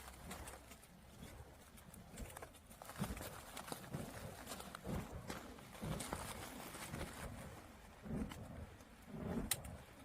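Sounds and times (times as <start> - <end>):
charcoal crackling: 0.0 - 9.8.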